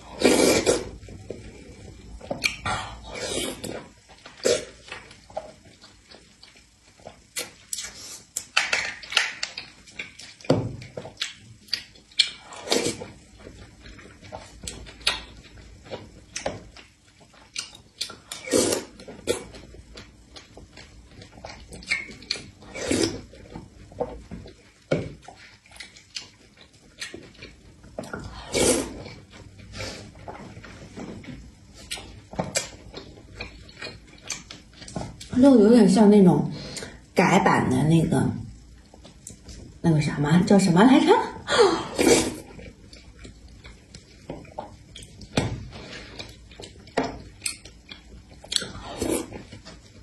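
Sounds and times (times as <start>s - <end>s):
wet chewing and slurping: 0.0s - 35.3s, 41.9s - 50.0s.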